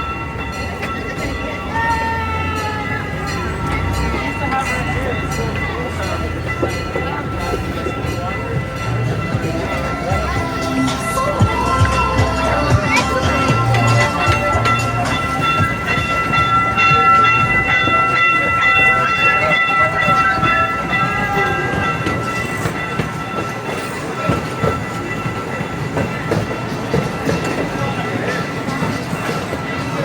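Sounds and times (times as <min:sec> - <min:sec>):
replica steam train rolling: 0:00.0 - 0:30.0
wheels clacking: 0:00.0 - 0:30.0.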